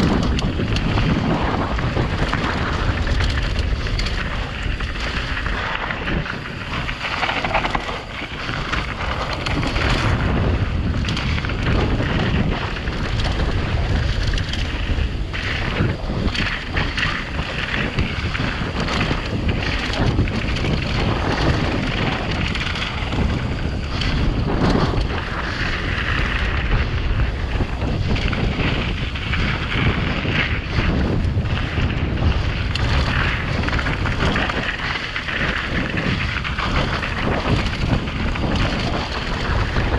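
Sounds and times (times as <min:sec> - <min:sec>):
bike rattling and knocking: 0:00.0 - 0:39.9
tyres crunching over gravel: 0:00.0 - 0:39.9
wind rushing over microphone: 0:00.0 - 0:39.9.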